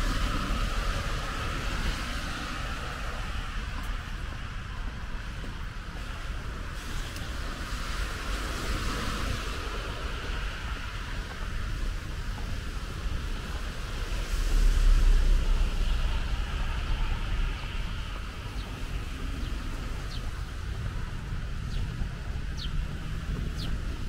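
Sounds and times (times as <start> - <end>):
outdoor rumble and hiss: 0.0 - 24.0.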